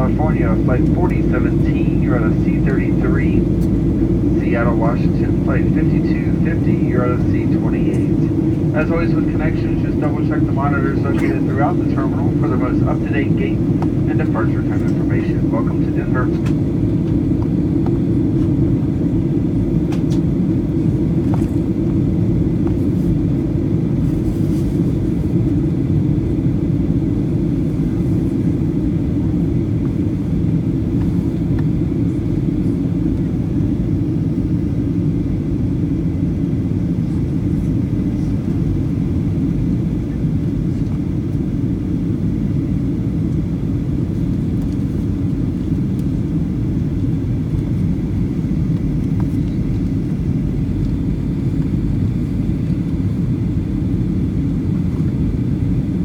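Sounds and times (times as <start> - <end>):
low airplane cabin rumble: 0.0 - 56.0.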